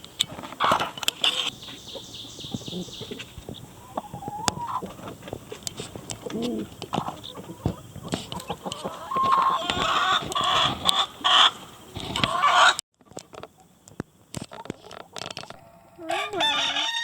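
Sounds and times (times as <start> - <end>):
chickens clucking: 0.0 - 13.8, 14.4 - 17.0.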